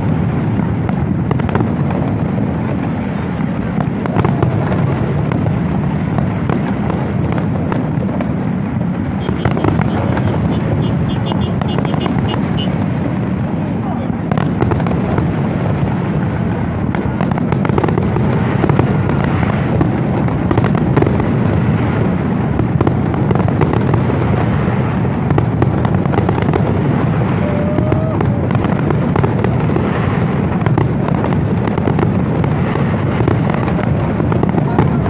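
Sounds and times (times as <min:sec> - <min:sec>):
fireworks booming: 0:00.0 - 0:35.0
fireworks crackling bangs: 0:00.0 - 0:35.0.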